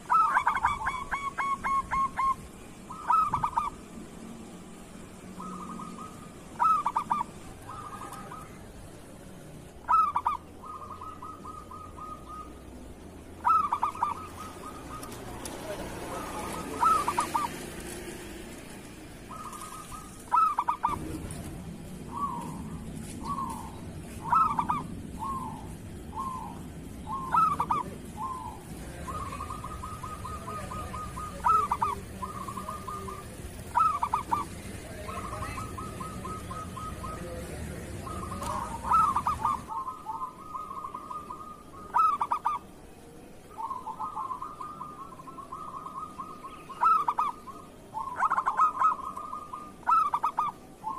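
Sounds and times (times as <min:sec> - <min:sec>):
dove cooing: 0:00.0 - 0:04.4, 0:05.1 - 0:09.2, 0:09.8 - 0:50.9.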